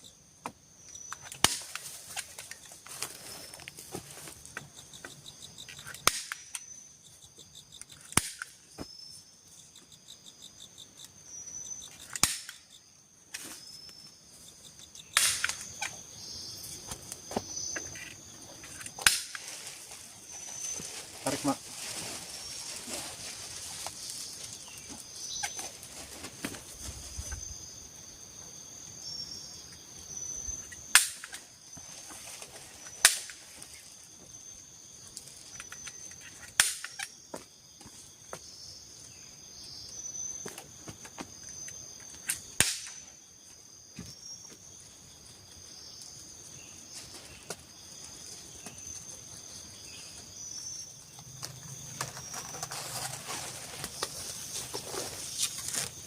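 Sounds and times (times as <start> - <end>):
forest insects chirring: 0.0 - 56.0.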